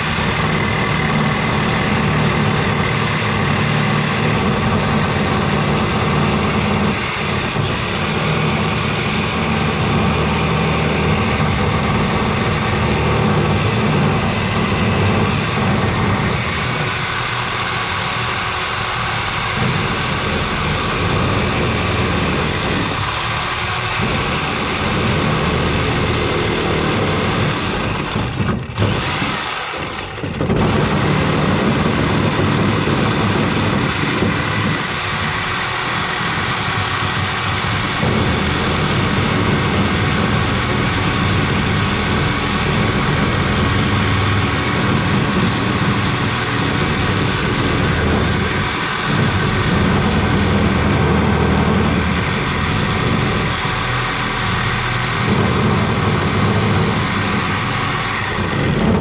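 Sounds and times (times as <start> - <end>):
motor running loudly: 0.0 - 59.0.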